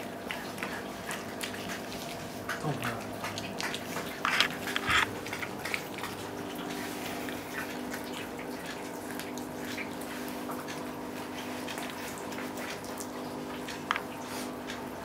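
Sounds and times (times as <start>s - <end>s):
animals chewing bones: 0.1s - 15.0s.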